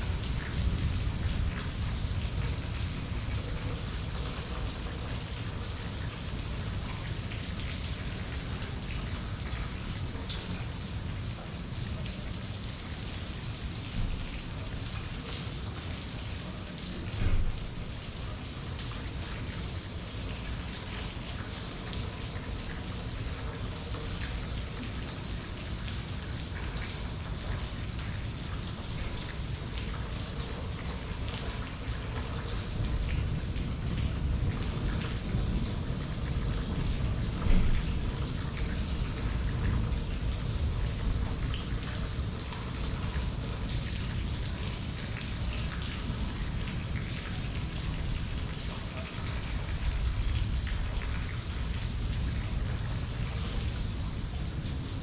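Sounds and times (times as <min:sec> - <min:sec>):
rain drops ticking on hard surfaces: 0:00.0 - 0:55.0.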